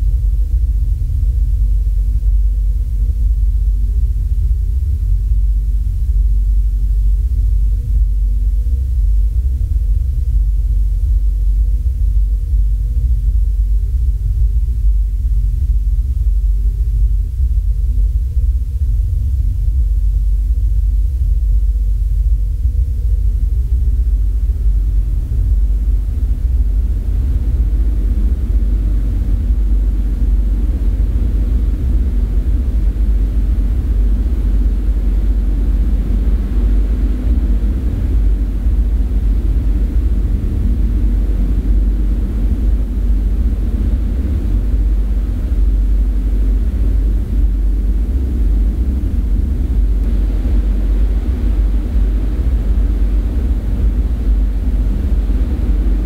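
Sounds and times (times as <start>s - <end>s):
low rumbling drone: 0.0s - 56.0s.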